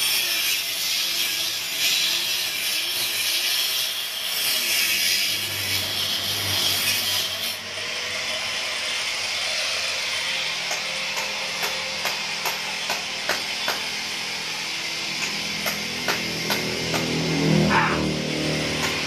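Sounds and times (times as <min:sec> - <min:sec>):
angle grinder grinding concrete: 0:00.0 - 0:19.0.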